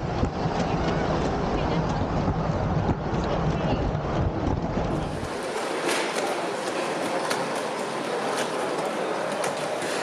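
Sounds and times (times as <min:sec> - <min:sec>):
hall background noise: 0:00.0 - 0:10.0.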